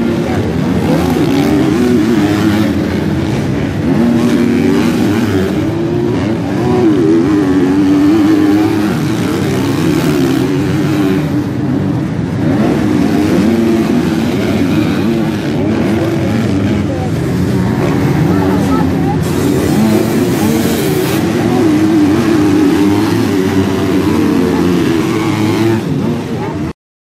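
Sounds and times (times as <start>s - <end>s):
motocross bike engines revving: 0.0s - 26.8s.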